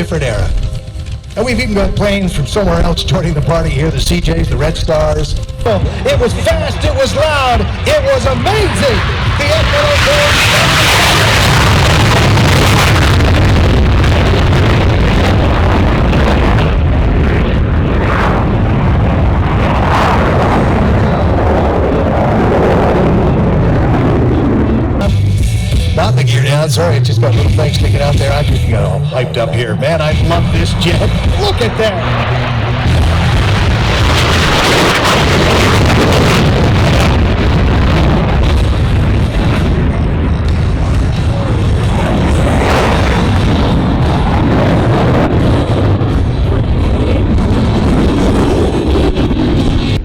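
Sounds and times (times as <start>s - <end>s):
jet aircraft roaring overhead: 0.0s - 50.0s.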